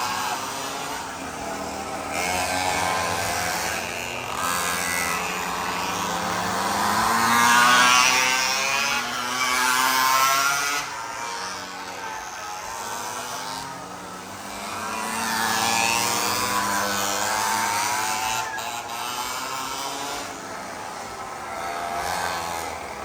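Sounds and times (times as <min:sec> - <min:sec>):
mini bike engines revving: 0:00.0 - 0:23.0.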